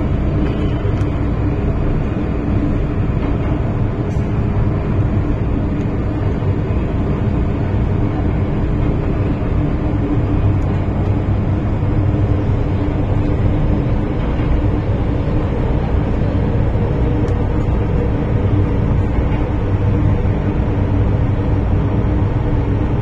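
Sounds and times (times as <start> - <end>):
train hum: 0.0 - 23.0
train wheels rumbling: 0.0 - 23.0.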